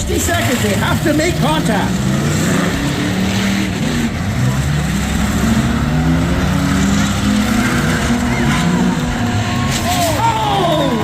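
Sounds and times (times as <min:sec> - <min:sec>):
car engines running and revving: 0:00.0 - 0:11.0.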